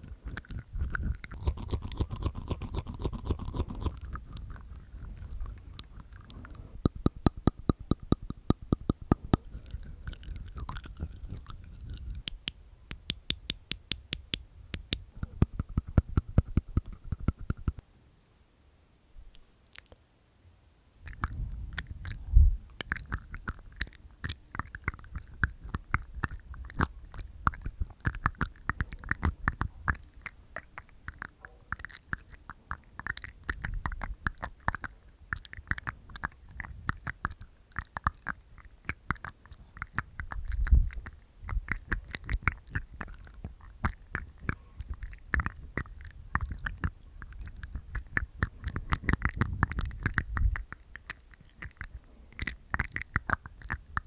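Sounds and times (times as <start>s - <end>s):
wet tongue clicks and teeth sounds: 0.0s - 17.8s, 19.3s - 20.0s, 21.0s - 54.0s.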